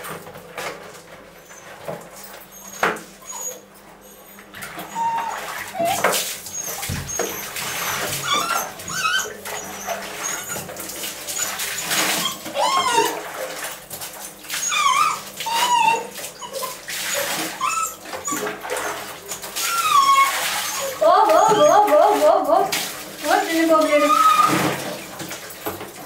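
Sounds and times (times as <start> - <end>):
puppies whining and yipping: 1.3 - 13.4, 14.2 - 22.5, 23.8 - 24.8.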